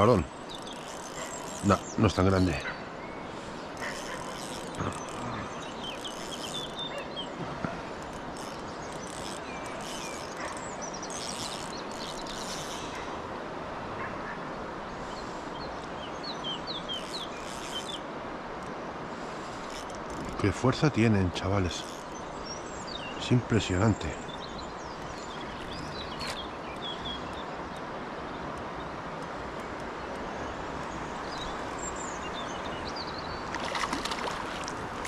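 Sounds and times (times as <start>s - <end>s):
outdoor background noise: 0.0s - 35.0s.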